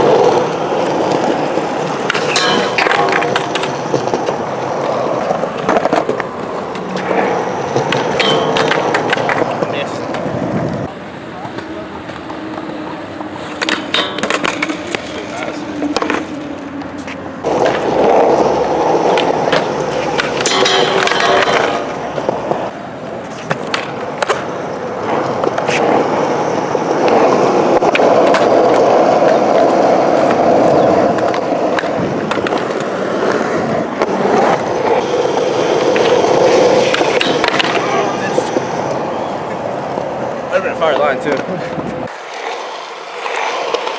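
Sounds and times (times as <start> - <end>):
skateboard scrape: 0.0 - 40.4, 41.3 - 43.9
skateboard clacks: 0.0 - 43.9
skateboard wheels rolling on concrete: 0.0 - 43.9.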